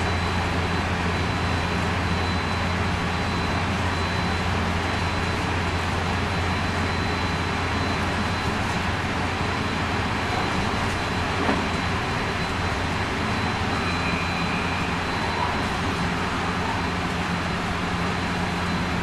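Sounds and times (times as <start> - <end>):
train wheels and motor rumbling: 0.0 - 19.0.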